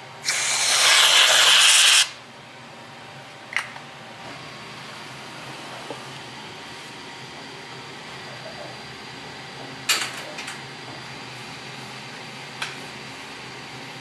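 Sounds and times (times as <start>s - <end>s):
room hum with fan hiss: 0.0s - 14.0s.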